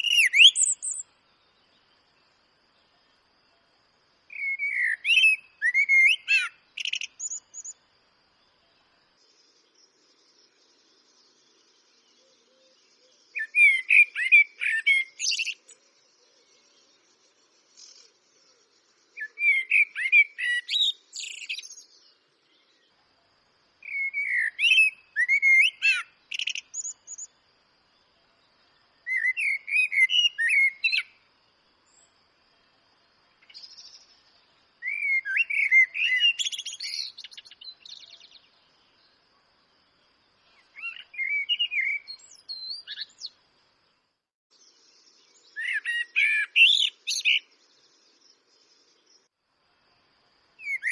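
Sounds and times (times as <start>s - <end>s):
blackbird singing: 0.0s - 2.9s, 4.3s - 7.8s, 8.4s - 23.0s, 23.8s - 27.4s, 28.2s - 31.2s, 33.4s - 39.2s, 40.4s - 43.4s, 44.5s - 49.3s, 50.6s - 50.9s.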